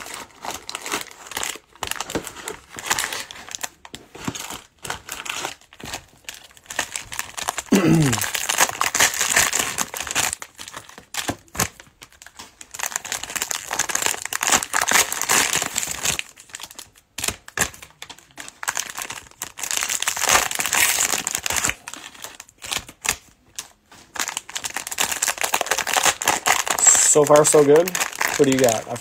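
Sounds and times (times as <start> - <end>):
plastic wrappers crinkling: 0.0 - 29.0.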